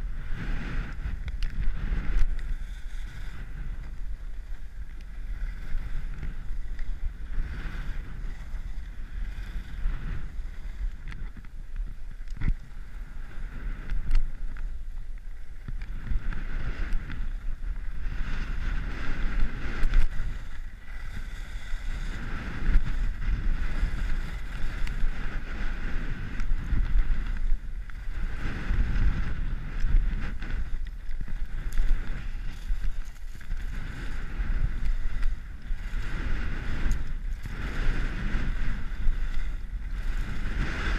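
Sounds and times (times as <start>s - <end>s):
skis scraping over snow: 0.0s - 40.9s
wind rumble on microphone: 0.0s - 40.9s.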